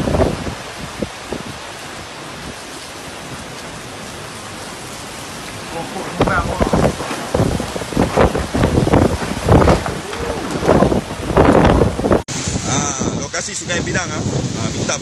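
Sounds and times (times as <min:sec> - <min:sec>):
heavy rain pouring: 0:00.0 - 0:15.0
wind gusts buffeting the microphone: 0:00.0 - 0:15.0.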